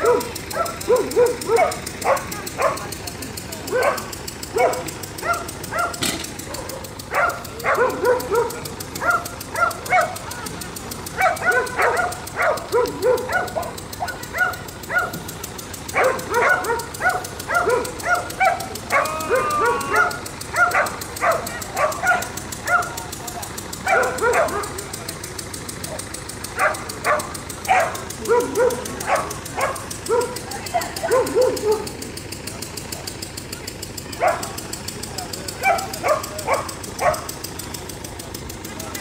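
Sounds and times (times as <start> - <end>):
dog barking: 0.0 - 25.2, 25.8 - 33.3, 34.0 - 37.6.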